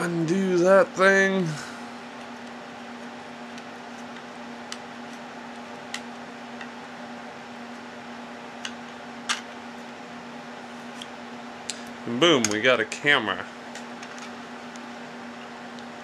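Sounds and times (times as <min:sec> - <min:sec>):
steady hum with hiss: 0:00.0 - 0:16.0.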